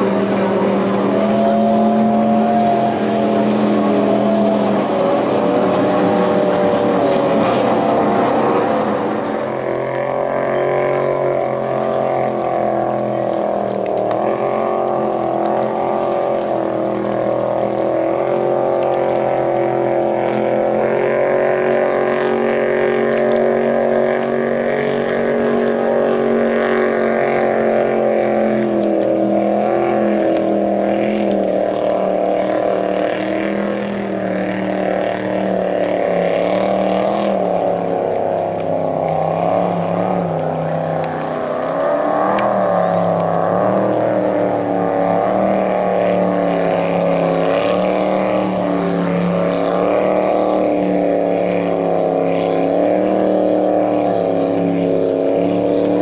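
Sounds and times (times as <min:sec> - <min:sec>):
race boat engines droning: 0:00.0 - 0:56.0.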